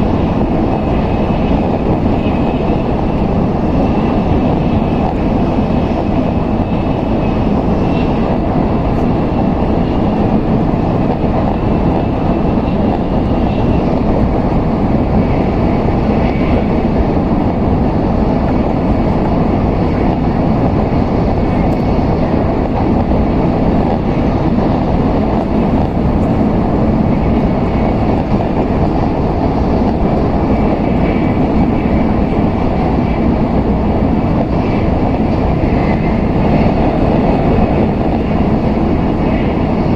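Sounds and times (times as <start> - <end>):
train cabin rumble and rush: 0.0 - 39.9.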